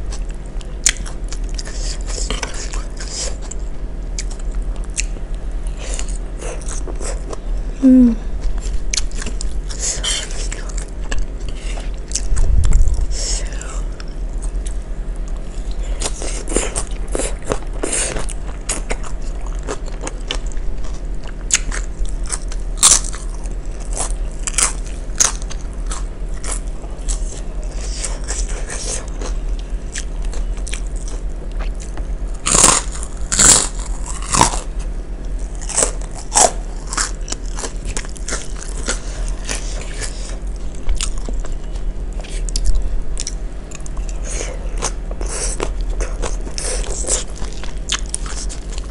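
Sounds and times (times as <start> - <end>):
crunchy chewing and biting: 0.0 - 7.7, 8.4 - 48.9
steady low hum: 0.0 - 48.9.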